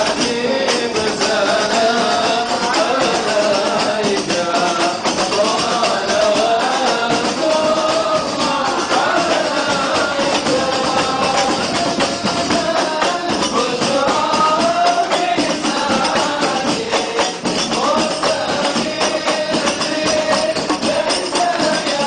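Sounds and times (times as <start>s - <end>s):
frame drums beaten fast: 0.0s - 22.0s
group singing devotional chant: 0.0s - 22.0s.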